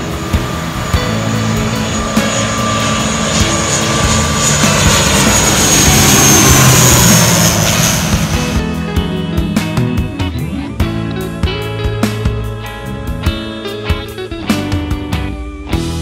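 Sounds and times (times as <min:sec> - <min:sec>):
airliner engine noise overhead: 0:00.0 - 0:16.0
high engine whine: 0:00.0 - 0:16.0.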